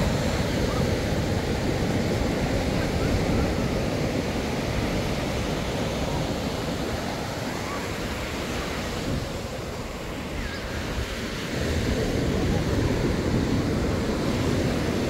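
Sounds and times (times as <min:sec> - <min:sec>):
breaking waves: 0:00.0 - 0:15.0.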